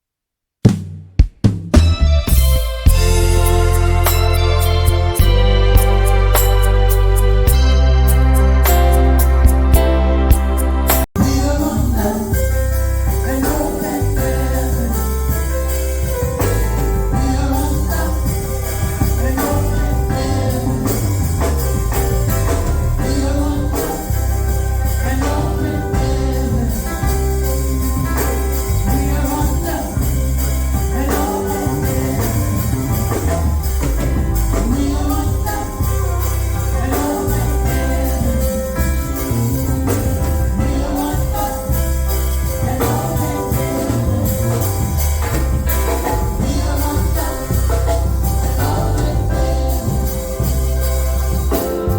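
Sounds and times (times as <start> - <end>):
percussion: 0.7 - 51.9
bass line: 1.4 - 51.9
gospel singing: 2.3 - 51.9.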